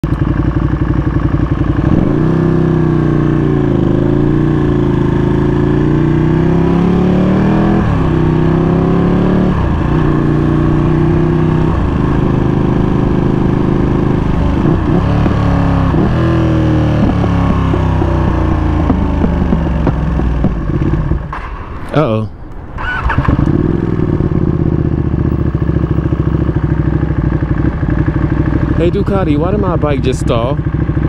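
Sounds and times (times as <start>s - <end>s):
motorcycle engine revving: 0.1s - 31.0s.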